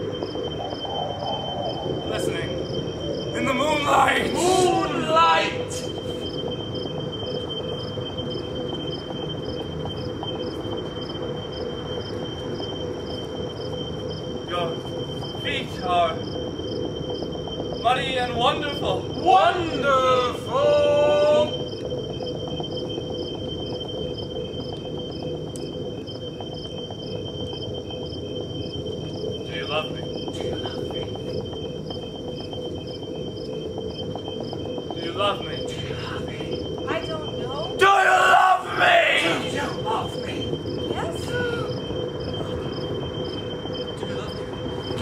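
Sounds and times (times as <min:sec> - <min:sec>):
insect chirping: 0:00.0 - 0:45.0.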